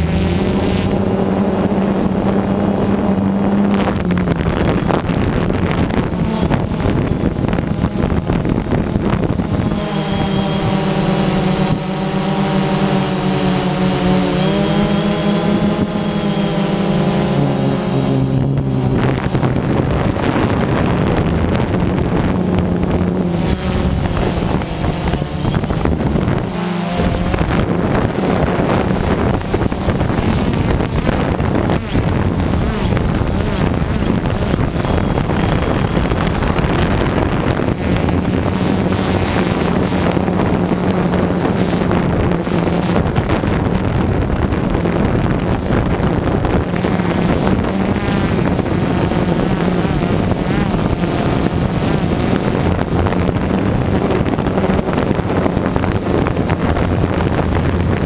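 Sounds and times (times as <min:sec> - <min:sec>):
drone motors buzzing: 0:00.0 - 0:58.0
wind on microphone: 0:00.0 - 0:58.0.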